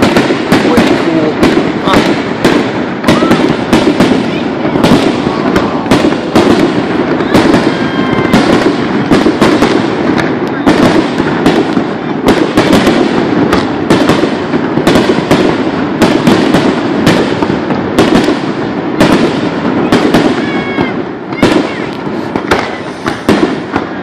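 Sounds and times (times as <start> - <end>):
fireworks bursting with loud bangs: 0.0 - 24.0.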